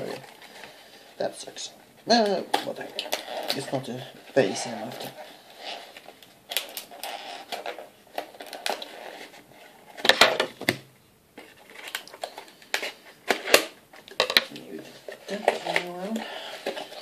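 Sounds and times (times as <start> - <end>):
cards and packaging rustling: 0.0 - 17.0.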